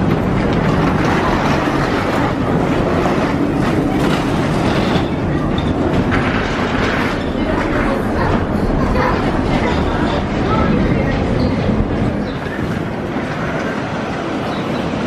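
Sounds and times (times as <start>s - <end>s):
moving vehicle rumble and rattle: 0.0s - 15.0s.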